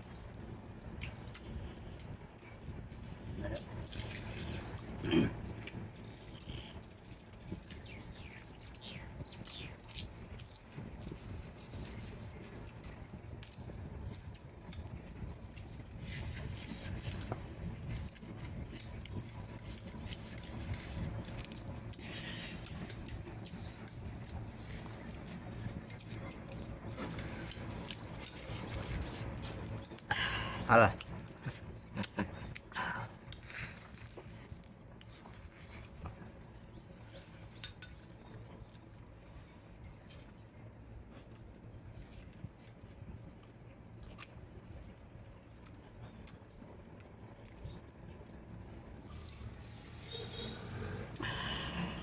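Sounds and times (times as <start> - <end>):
person chewing food: 9.4 - 30.1, 30.9 - 52.0.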